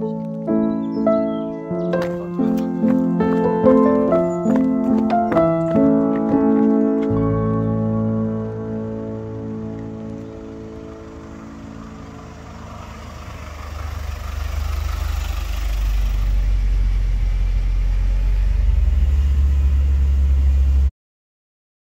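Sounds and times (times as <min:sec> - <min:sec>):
vehicle rumble on road: 0:00.0 - 0:20.9.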